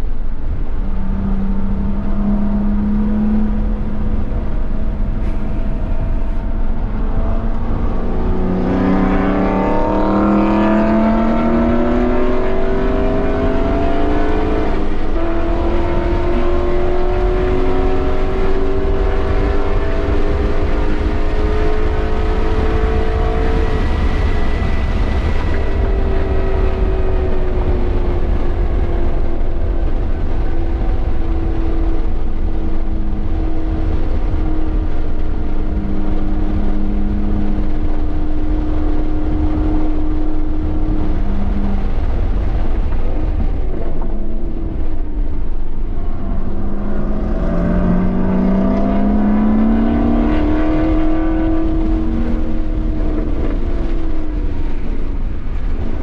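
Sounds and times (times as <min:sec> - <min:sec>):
car engine revving: 0:00.0 - 0:56.0
wind and road noise: 0:00.0 - 0:56.0.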